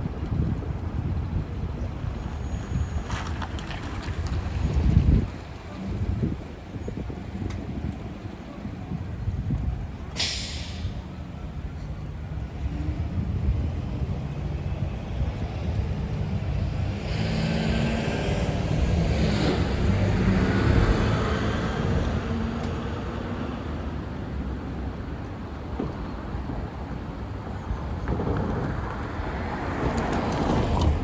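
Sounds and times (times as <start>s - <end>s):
bus engine rumbling: 0.0s - 31.0s
road traffic: 0.0s - 31.0s.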